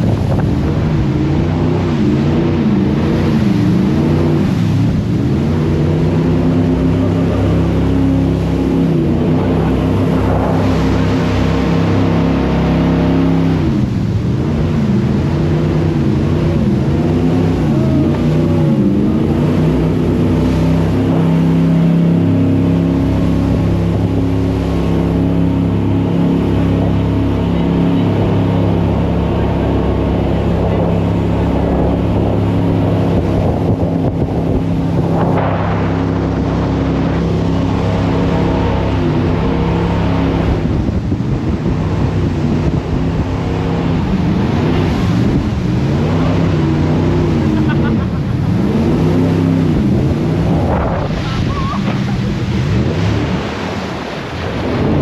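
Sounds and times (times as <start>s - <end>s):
boat engine at high revs: 0.0s - 55.0s
rushing water: 0.0s - 55.0s
wind buffeting microphone: 0.0s - 55.0s.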